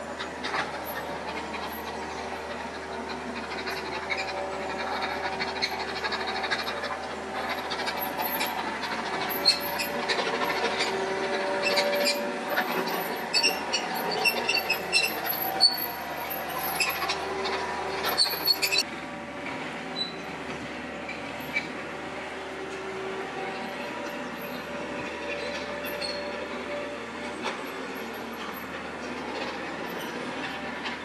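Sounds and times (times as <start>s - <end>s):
metallic clanking and squealing: 0.0s - 20.4s, 21.0s - 31.0s
excavator diesel engine: 0.0s - 31.0s.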